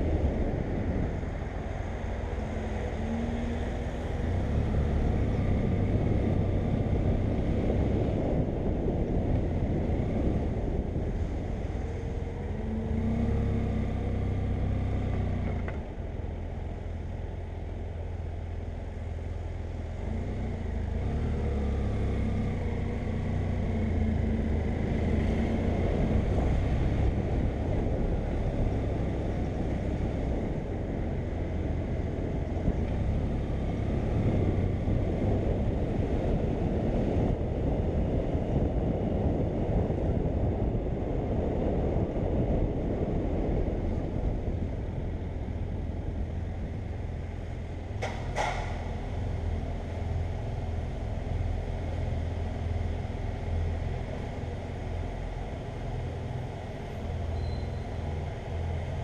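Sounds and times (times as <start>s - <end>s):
rush of riding wind: 0.0s - 59.0s.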